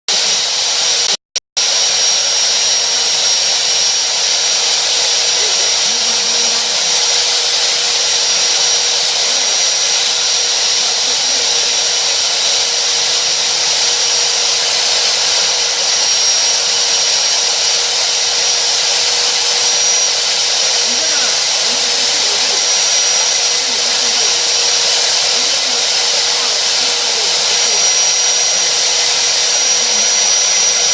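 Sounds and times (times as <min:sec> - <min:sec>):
pipe cutting machine whining: 0:00.1 - 0:30.9.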